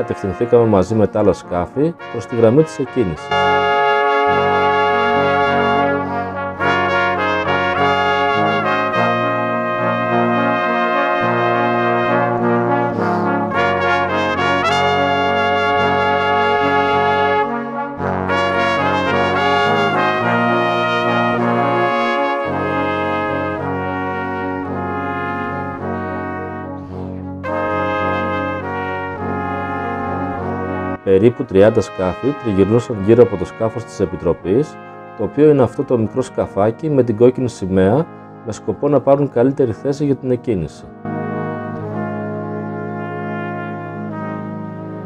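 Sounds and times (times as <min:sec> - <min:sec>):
background music with held chords: 0:00.0 - 0:45.0.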